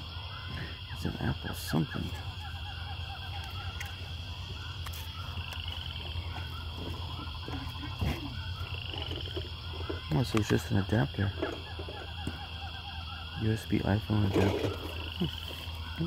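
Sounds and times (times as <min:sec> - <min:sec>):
chorus of animal calls: 0:00.0 - 0:16.0
steady low hum: 0:00.0 - 0:16.0.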